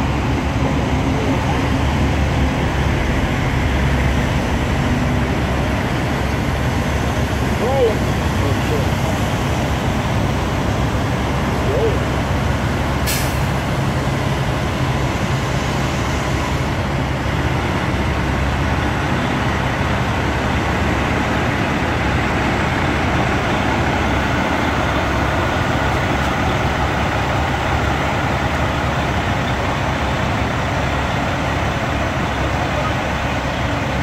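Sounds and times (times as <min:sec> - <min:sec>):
heavy truck engine running: 0:00.0 - 0:34.0
road noise: 0:00.0 - 0:34.0.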